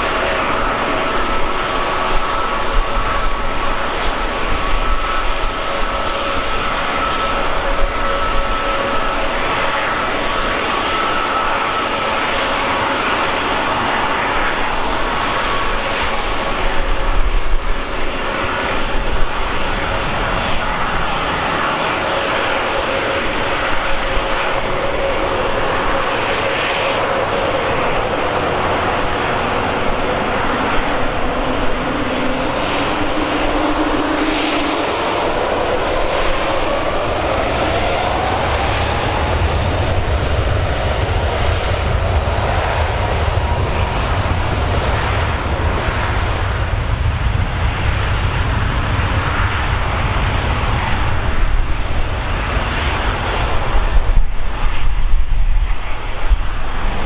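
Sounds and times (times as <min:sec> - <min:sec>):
engine whine sliding in pitch: 0:00.0 - 0:47.5
jet engines roaring: 0:00.0 - 0:57.0.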